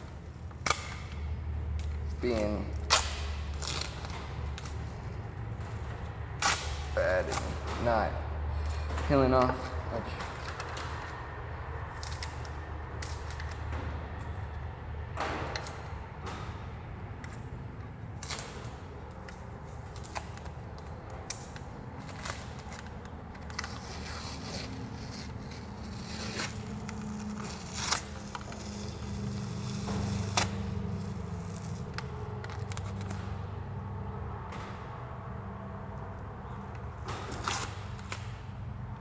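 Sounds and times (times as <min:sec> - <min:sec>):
tape peeling: 0:00.0 - 0:39.0.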